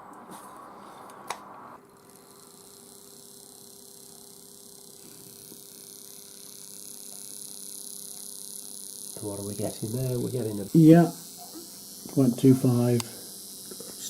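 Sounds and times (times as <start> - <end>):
electric hum with hiss: 0.0 - 14.0.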